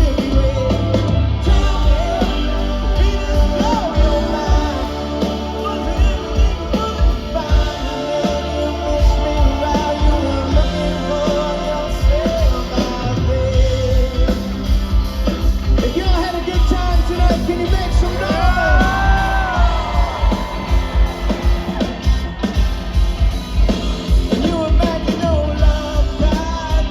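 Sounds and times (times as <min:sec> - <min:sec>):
live rock band playing: 0:00.0 - 0:26.9
sliding lead guitar line: 0:00.0 - 0:26.9.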